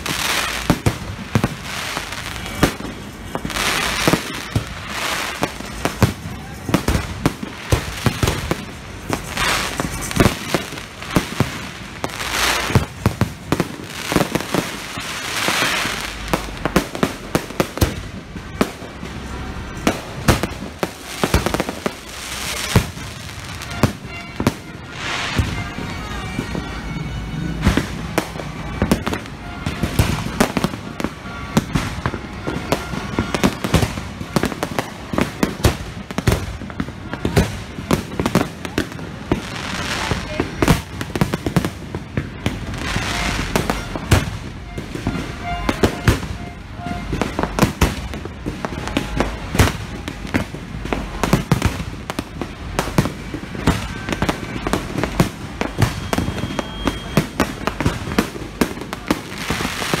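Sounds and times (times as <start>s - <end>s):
fireworks bursts and bangs: 0.0s - 60.0s.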